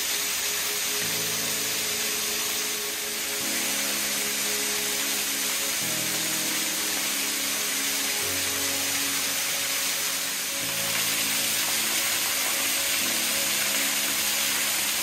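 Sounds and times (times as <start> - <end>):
slow sustained chords music: 0.0 - 15.0
small waterfall rushing hiss: 0.0 - 15.0.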